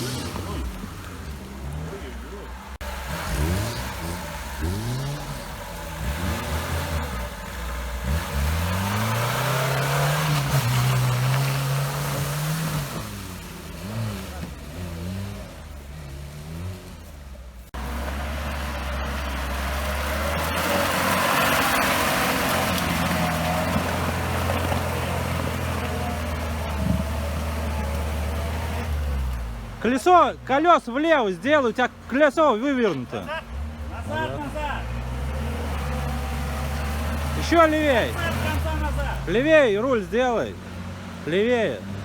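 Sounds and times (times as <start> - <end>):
off-road engine revving: 0.0 - 42.0.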